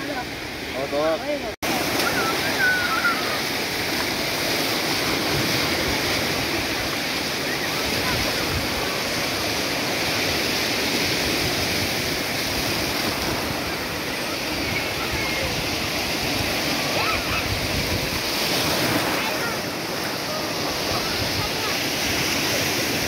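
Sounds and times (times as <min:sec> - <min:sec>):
surf washing over sandy beach: 0:00.0 - 0:23.0.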